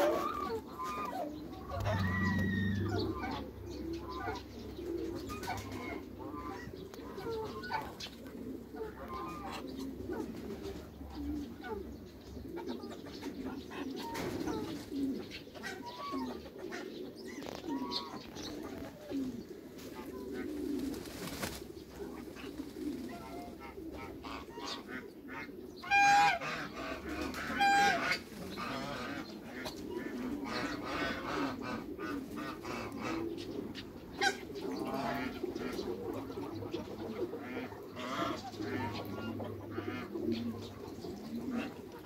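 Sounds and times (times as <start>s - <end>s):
loud bird calls: 0.0s - 42.0s
pigeons cooing: 0.0s - 42.0s.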